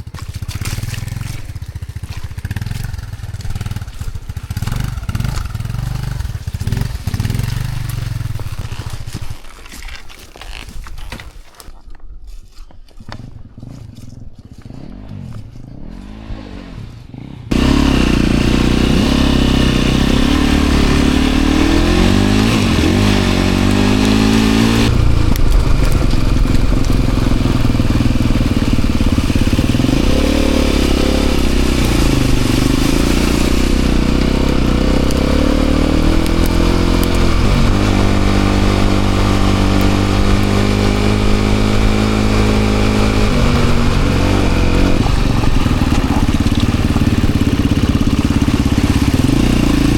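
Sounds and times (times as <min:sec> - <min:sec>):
dirt bike engine revving: 0:00.0 - 0:09.3, 0:13.4 - 0:49.9.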